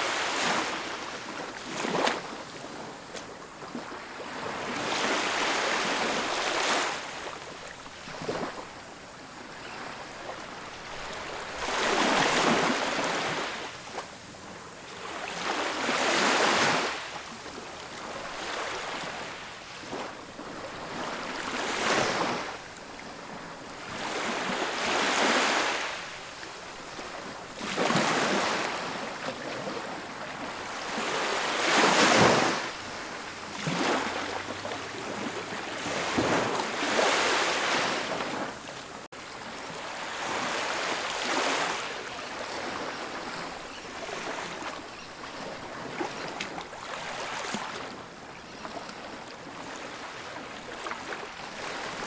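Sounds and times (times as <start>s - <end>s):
ocean waves breaking on beach: 0.0s - 52.0s.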